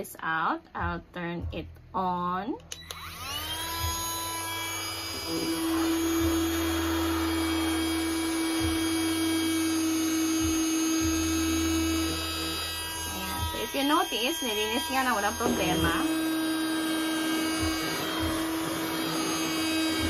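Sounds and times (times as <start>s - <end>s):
vacuum cleaner motor whine: 2.8s - 20.0s.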